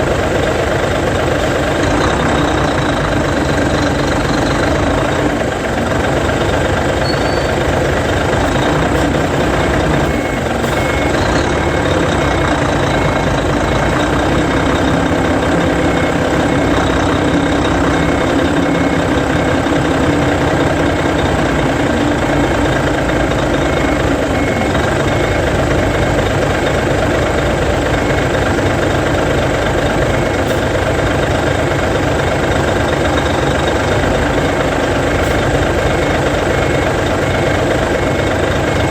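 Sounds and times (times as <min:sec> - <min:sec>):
diesel bus engine running: 0:00.0 - 0:38.9
reversing alarm beeping: 0:01.7 - 0:38.9.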